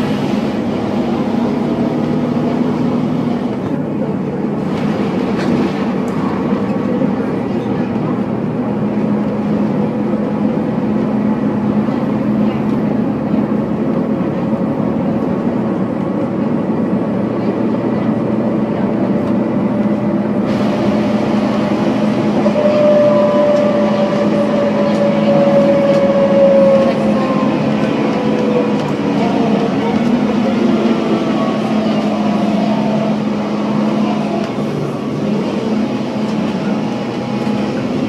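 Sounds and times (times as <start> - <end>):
bus running noise from on board: 0.0 - 38.0.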